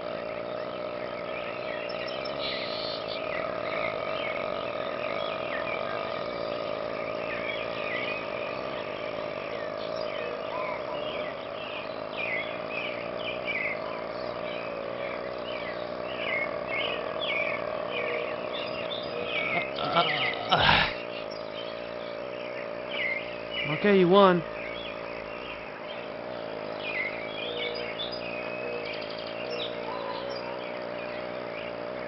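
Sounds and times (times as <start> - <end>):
steady high drone: 0.0 - 32.0.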